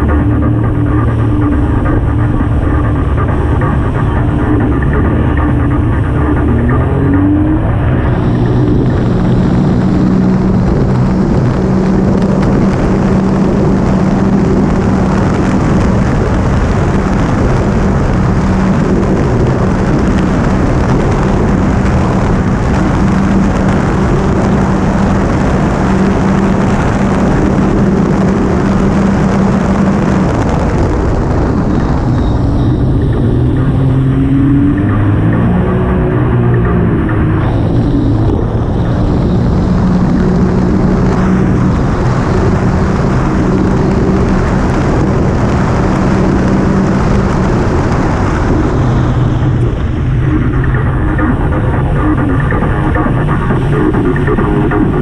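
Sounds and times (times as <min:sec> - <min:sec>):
engine revving: 0:00.0 - 0:55.0
water rushing: 0:00.0 - 0:55.0
watercraft engine droning: 0:00.0 - 0:55.0
wind on microphone: 0:00.0 - 0:55.0.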